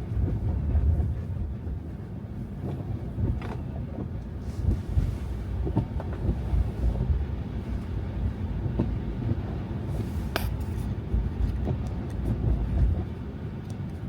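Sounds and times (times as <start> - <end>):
tyres and road noise on snow: 0.0 - 14.0.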